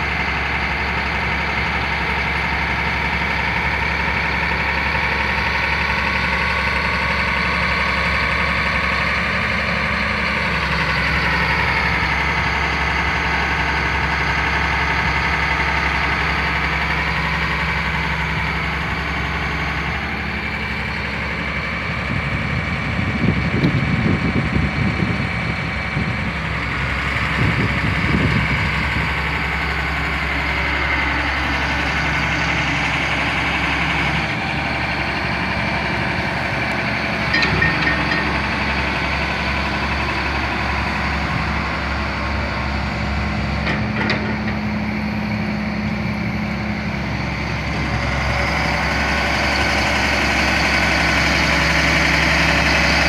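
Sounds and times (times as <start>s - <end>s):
diesel truck engine idling: 0.0s - 53.0s.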